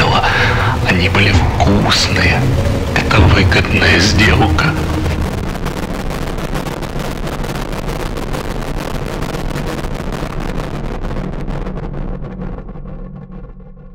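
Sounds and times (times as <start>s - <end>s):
crackling wall of noise: 0.0s - 13.9s
low rumbling hum: 0.0s - 13.9s.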